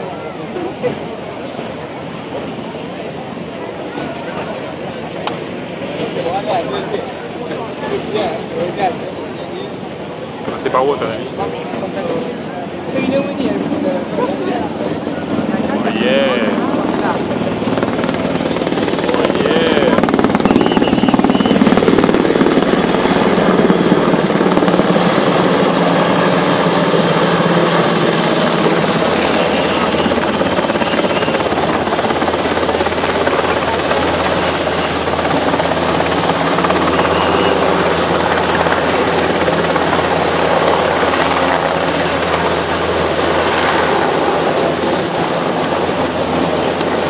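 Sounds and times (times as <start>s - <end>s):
helicopter rotor and turbine: 0.0s - 47.0s.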